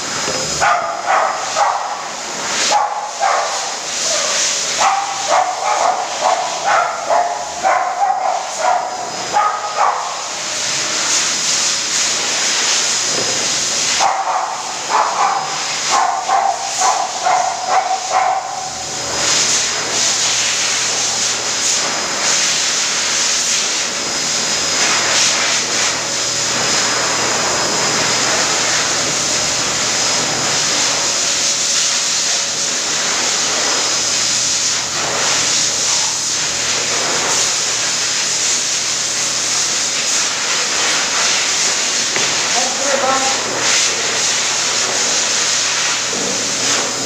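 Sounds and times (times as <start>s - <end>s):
electric blower rushing air: 0.0s - 47.0s.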